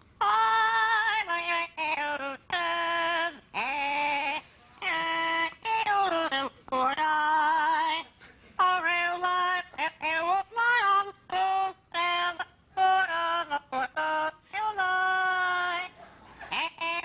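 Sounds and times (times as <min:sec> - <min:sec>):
parrot singing: 0:00.2 - 0:17.0.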